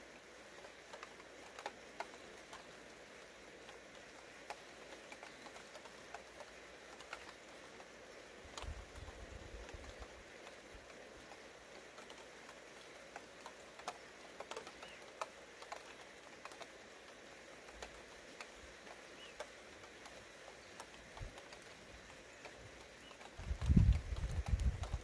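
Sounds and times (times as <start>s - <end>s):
light rain pattering: 0.0s - 25.0s.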